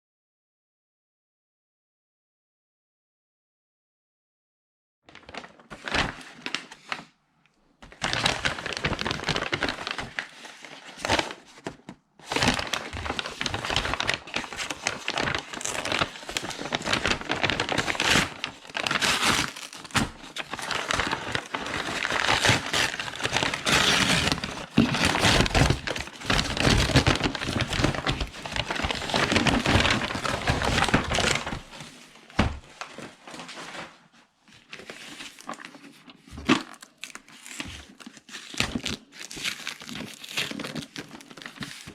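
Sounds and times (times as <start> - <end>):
packaging crinkling: 5.1 - 7.1, 7.8 - 33.9, 34.6 - 41.9.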